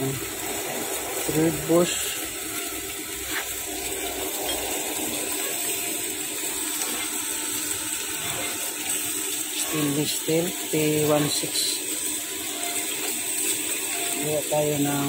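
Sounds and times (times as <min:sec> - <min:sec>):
steady rushing machine-shop noise: 0:00.0 - 0:15.0.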